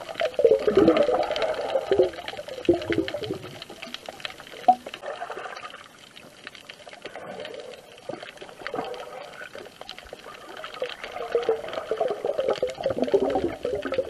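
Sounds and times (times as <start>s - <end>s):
muffled underwater sloshing and bubbling: 0.0s - 14.0s
small clicks: 0.1s - 14.0s.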